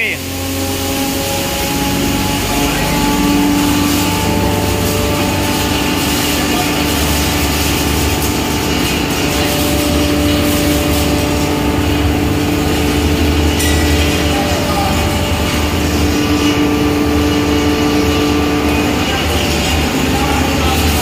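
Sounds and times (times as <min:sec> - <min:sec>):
hammer mill grinding: 0:00.0 - 0:21.0.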